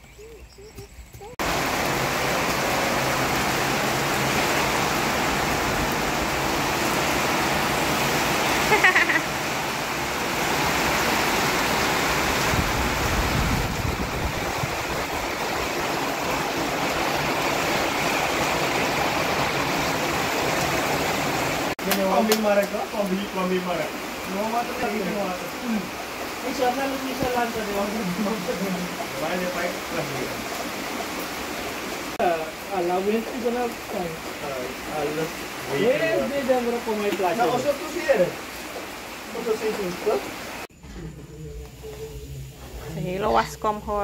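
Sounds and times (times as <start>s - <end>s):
heavy rain pouring: 1.3s - 40.7s.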